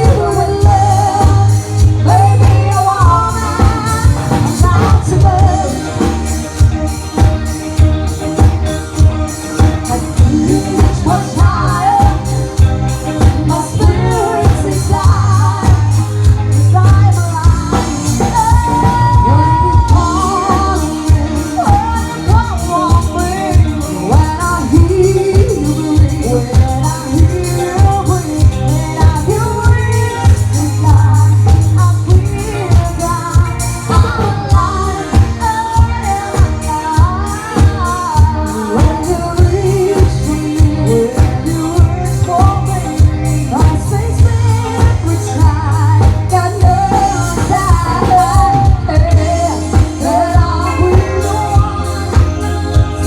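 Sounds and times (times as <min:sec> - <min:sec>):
band playing pop song: 0:00.0 - 0:53.0
woman singing: 0:00.0 - 0:53.0.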